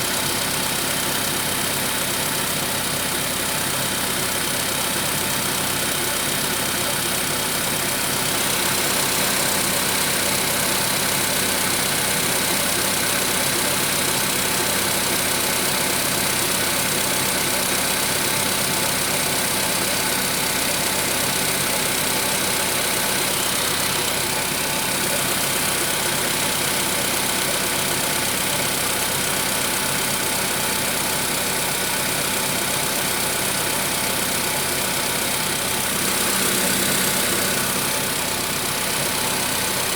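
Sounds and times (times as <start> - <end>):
car engine idling: 0.0 - 39.9
engine knocking: 0.0 - 39.9.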